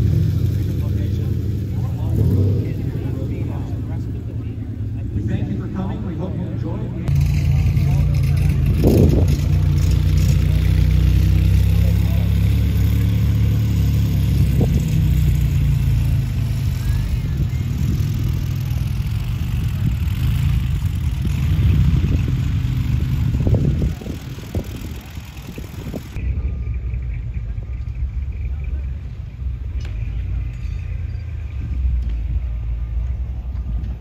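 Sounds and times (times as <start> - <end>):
car engines rumbling: 0.0 - 34.0.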